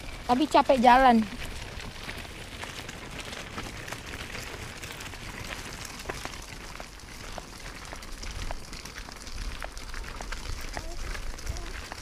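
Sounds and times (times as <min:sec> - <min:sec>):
footsteps on gravel: 0:00.0 - 0:12.0
pushchair wheels on gravel: 0:00.0 - 0:12.0.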